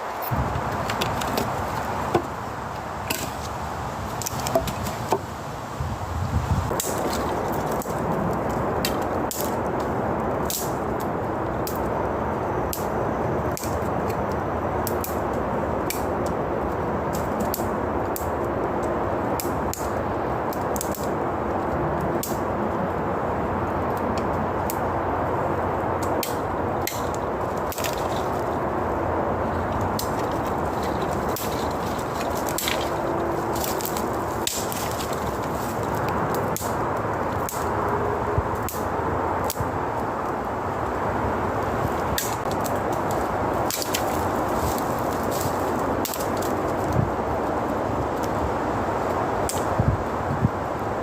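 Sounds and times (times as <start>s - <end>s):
steady rushing noise: 0.0s - 51.0s
wood fire crackling: 0.0s - 51.0s.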